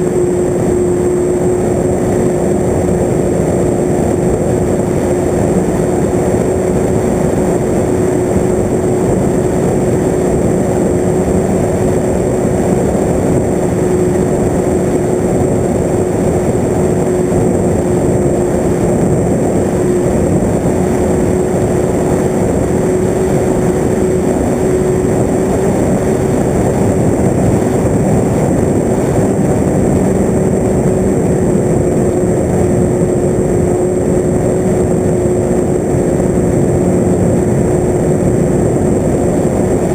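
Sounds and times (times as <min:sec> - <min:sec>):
model aircraft motor humming: 0:00.0 - 0:39.9
rushing air noise: 0:00.0 - 0:39.9.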